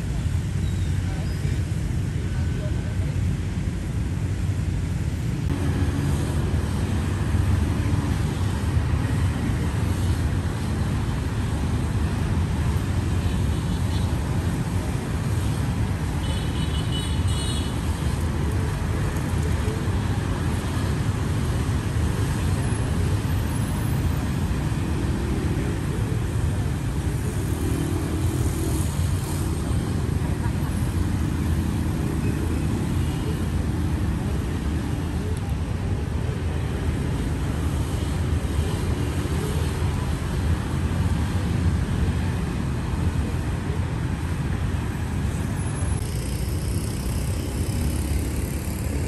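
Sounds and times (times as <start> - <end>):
city traffic rumble: 0.0 - 49.0.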